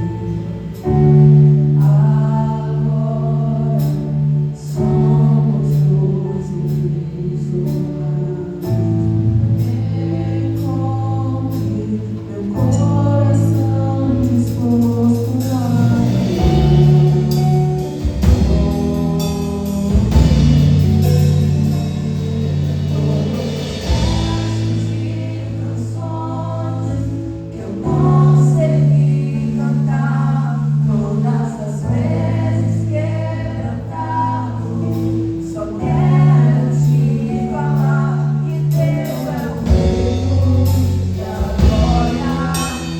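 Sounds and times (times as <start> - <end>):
group singing worship song: 0.0 - 42.9
instrumental accompaniment: 0.0 - 42.9
sustained low bass notes: 0.0 - 42.9.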